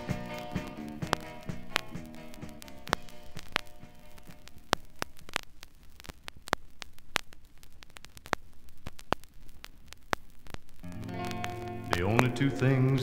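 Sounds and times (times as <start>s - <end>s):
vinyl record clicks and pops: 0.0s - 13.0s.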